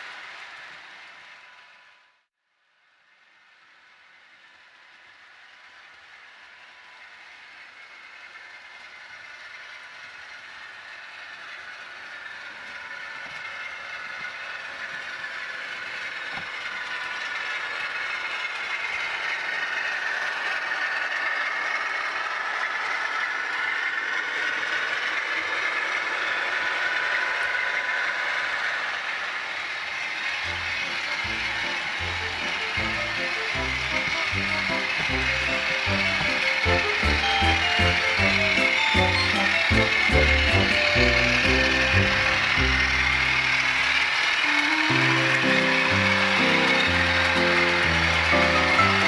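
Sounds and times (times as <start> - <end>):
model train motor running: 3.6 - 48.4.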